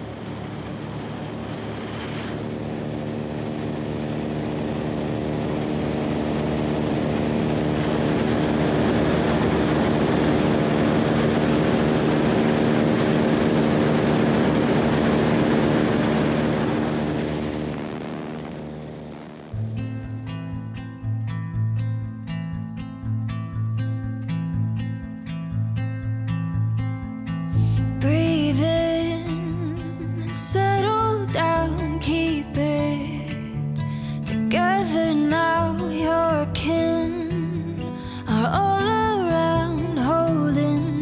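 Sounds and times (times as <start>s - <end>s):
propeller engine droning: 0.0s - 41.0s.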